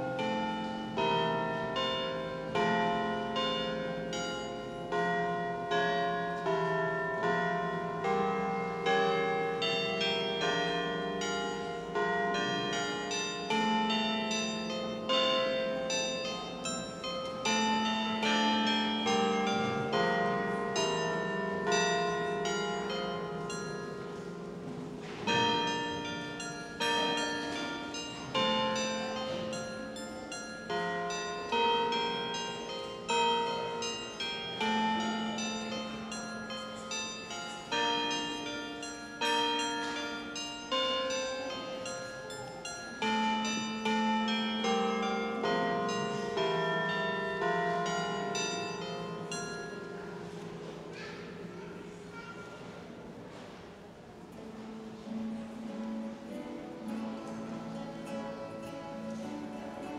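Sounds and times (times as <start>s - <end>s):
bells playing a tune: 0.0s - 53.4s, 54.3s - 59.9s.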